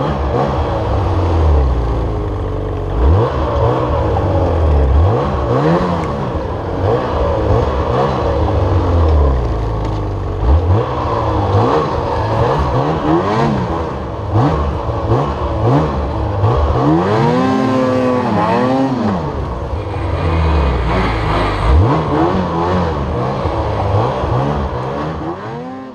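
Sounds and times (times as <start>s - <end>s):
snowmobile engine revving: 0.0s - 25.9s.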